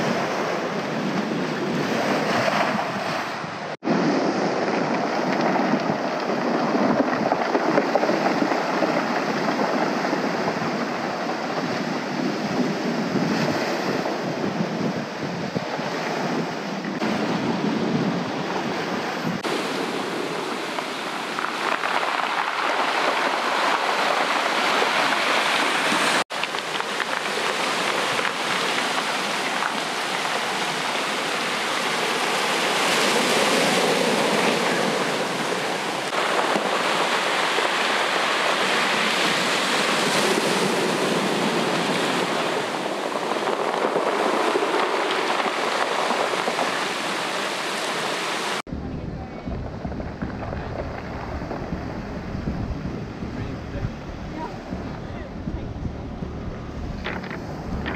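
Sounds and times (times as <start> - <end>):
surf breaking on pebble beach: 0.0 - 48.7.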